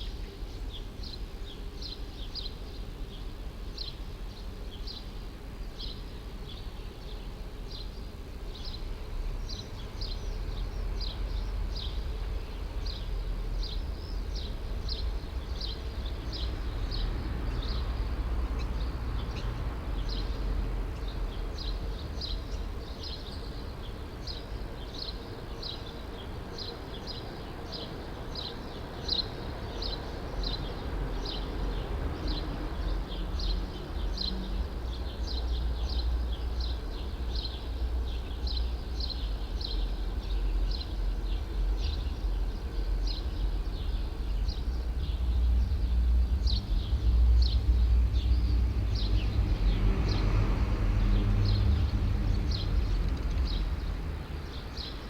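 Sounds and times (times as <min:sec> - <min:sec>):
distant city traffic rumble: 0:00.0 - 0:55.0.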